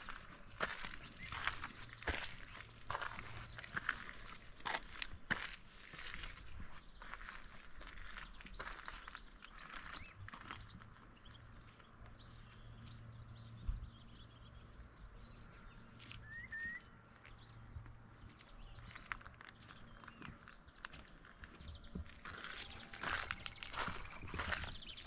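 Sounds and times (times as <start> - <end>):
footsteps on rocky path: 0.0 - 25.0.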